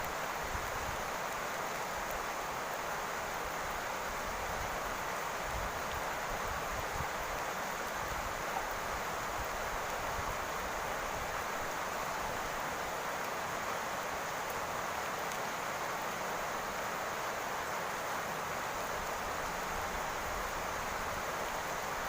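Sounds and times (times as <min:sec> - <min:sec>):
rain on a roof: 0:00.0 - 0:22.0.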